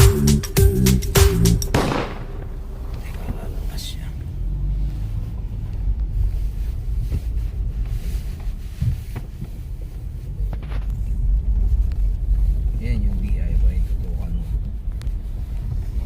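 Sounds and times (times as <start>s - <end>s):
vehicle driving rumble: 0.0s - 16.0s.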